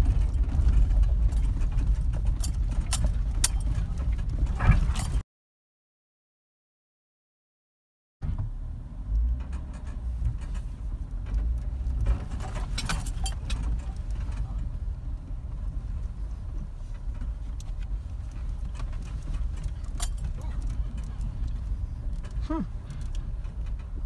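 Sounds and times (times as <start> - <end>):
engine and road rumble: 0.0 - 5.2, 8.2 - 24.0.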